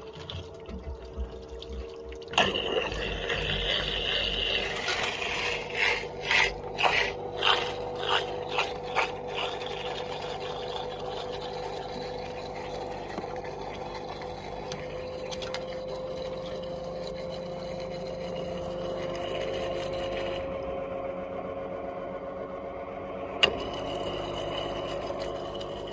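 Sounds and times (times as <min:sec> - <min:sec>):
washing machine running: 0:00.0 - 0:25.9.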